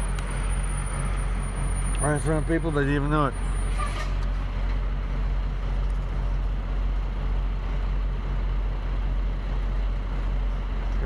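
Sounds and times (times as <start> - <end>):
motor vehicle engine rumbling: 0.0 - 11.0.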